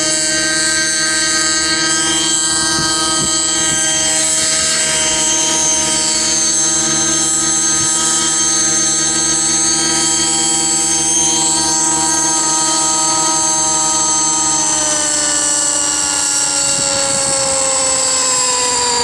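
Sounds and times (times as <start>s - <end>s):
model helicopter engine whine: 0.0s - 19.0s.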